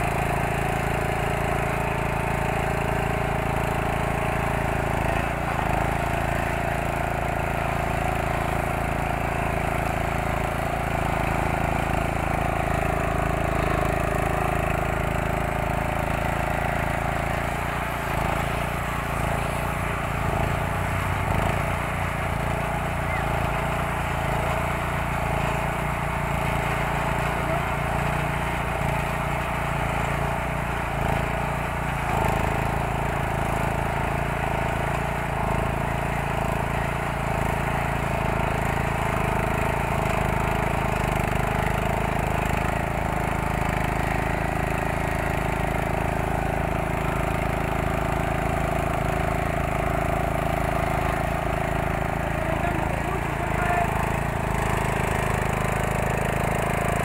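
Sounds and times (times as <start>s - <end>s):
small petrol engine droning: 0.0s - 57.0s.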